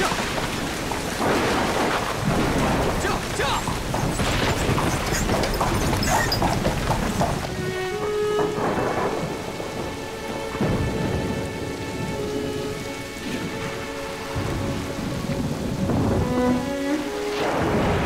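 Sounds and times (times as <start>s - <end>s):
heavy downpour: 0.0s - 18.0s
thunder rumbling: 0.0s - 18.0s.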